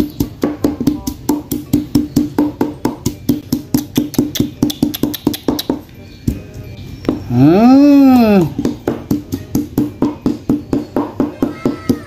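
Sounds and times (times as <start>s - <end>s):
pestle pounding in wooden mortar: 0.0s - 6.4s, 7.1s - 12.0s.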